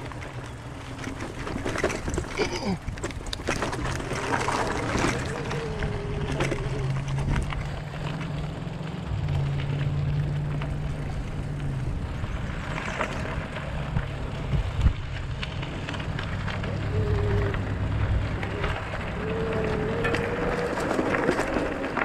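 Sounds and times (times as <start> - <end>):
bike rattling over bumps: 0.0 - 22.0
tyres crunching on gravel: 0.0 - 22.0.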